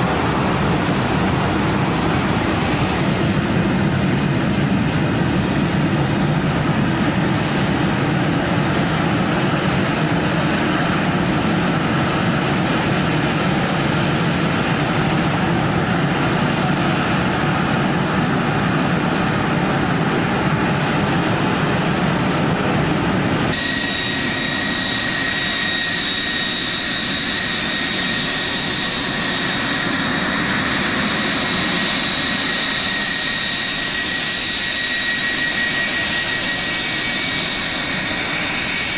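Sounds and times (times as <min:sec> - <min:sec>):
high-pitched jet engine whine: 0:00.0 - 0:38.9
jet engines rumbling: 0:00.0 - 0:38.9.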